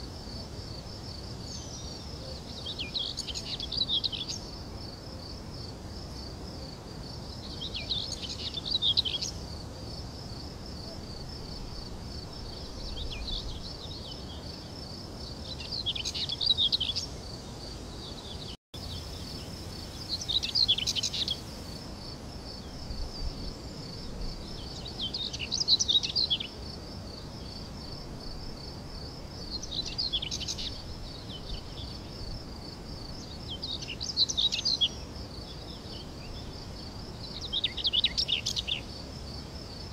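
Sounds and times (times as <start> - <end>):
crickets trilling: 0.0 - 39.9
songbird chirping: 0.0 - 39.9.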